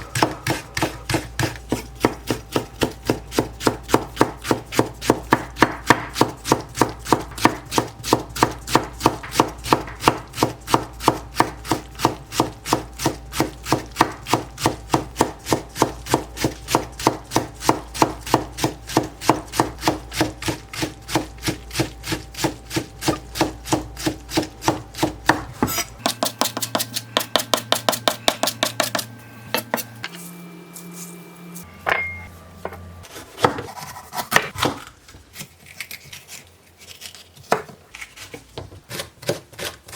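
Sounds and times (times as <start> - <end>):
knife chopping on wooden board: 0.1 - 29.9, 31.9 - 34.9.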